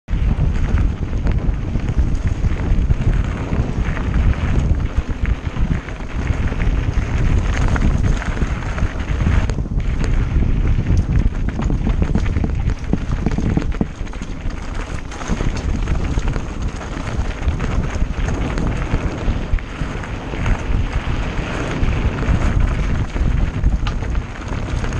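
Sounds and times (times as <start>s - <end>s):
bike rattling and knocking: 0.1s - 24.9s
wind buffeting microphone: 0.1s - 24.9s
tyres crunching on gravel: 0.2s - 24.9s.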